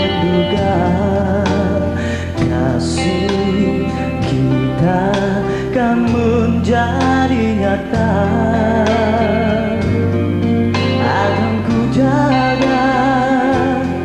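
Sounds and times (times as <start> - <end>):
pop ballad with singer and band: 0.0 - 14.0.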